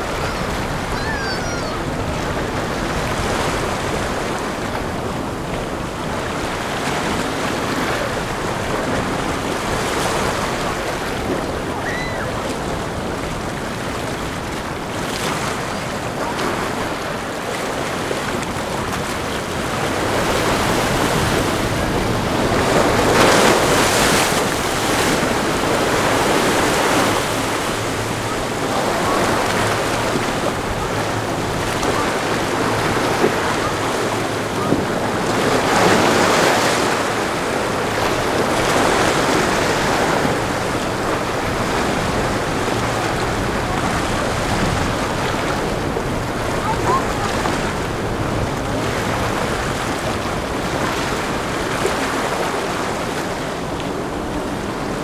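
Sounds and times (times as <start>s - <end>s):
boat engines droning: 0.0s - 55.0s
sea surf breaking: 0.0s - 55.0s
wind buffeting microphone: 0.0s - 55.0s.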